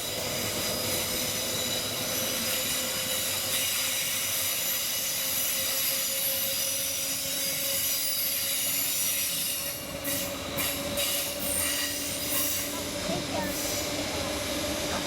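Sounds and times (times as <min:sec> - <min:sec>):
train rumble: 0:00.0 - 0:15.0
train wheels squealing on rails: 0:00.0 - 0:15.0.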